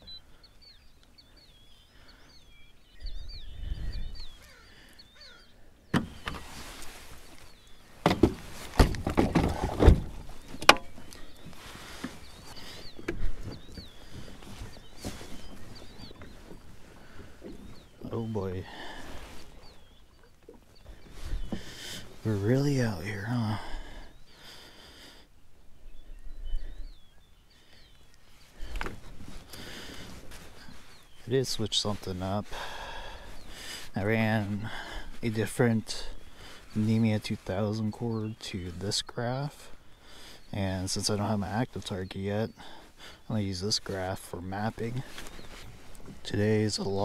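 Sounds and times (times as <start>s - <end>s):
small bird chirping: 0.0s - 8.0s, 10.2s - 23.5s, 25.8s - 47.0s.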